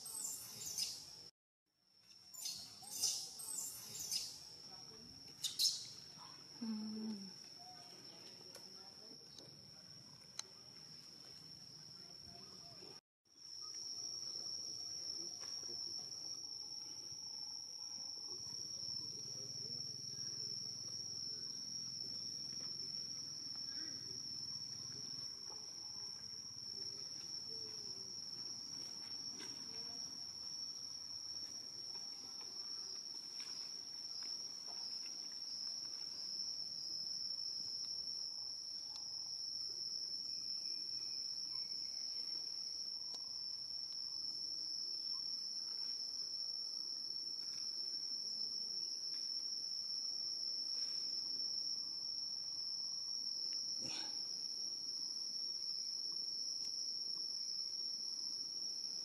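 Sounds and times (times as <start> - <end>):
high-pitched insect chorus: 0.0 - 1.3, 2.0 - 59.0.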